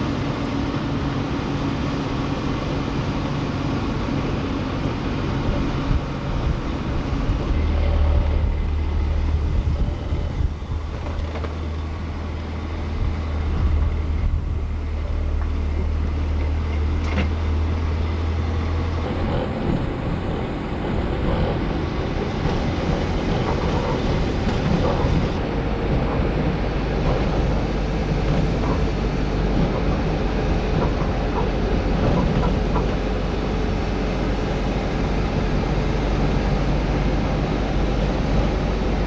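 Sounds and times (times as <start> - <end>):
steady low drone: 0.0 - 39.0
car engine and tyre noise: 3.0 - 39.0.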